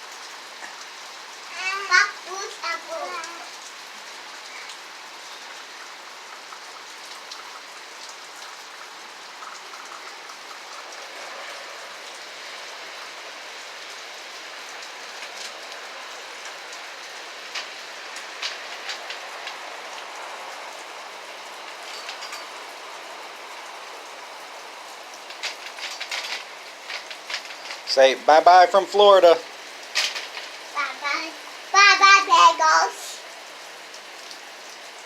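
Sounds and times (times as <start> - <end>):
heavy rain hissing: 0.0 - 35.0.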